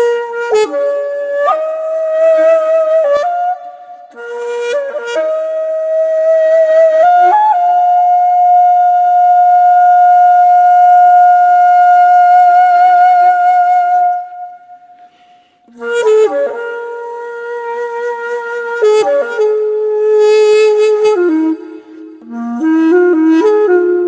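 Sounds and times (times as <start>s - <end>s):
flute-like wind instrument: 0.0s - 24.0s.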